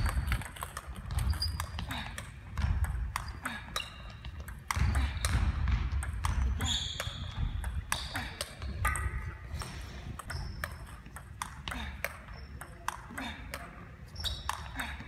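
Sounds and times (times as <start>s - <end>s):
table tennis ball hits: 0.0s - 13.7s.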